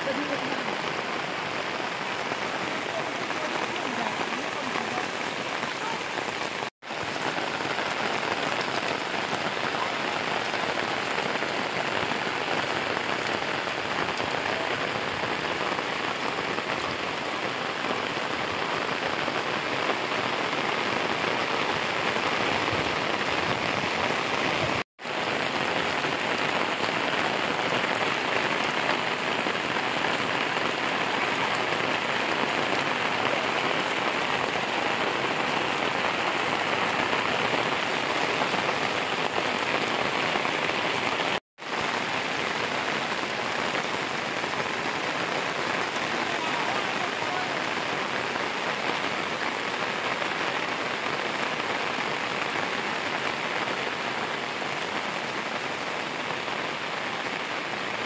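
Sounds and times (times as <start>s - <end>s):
rain pattering on ground and roofs: 0.0s - 58.0s.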